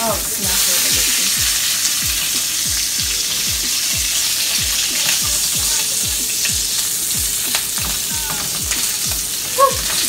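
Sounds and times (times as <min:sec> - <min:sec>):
bacon sizzling in a frying pan: 0:00.0 - 0:10.0
music with thumping bass beat: 0:00.1 - 0:10.0.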